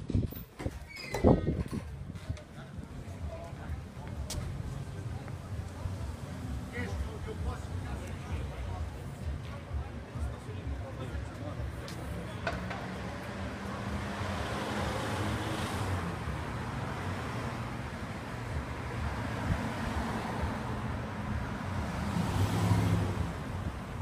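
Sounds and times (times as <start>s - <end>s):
traffic rumble: 0.0s - 24.0s
cars passing by: 1.3s - 24.0s.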